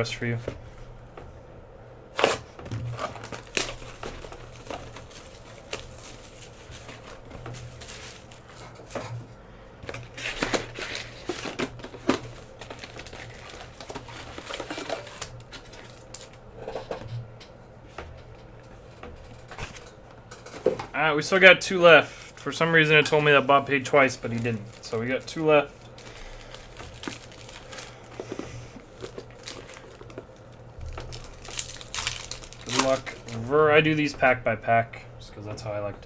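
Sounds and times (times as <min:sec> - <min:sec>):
faint steady hum: 0:00.0 - 0:36.0
crinkling sounds: 0:02.2 - 0:20.9, 0:22.3 - 0:33.6.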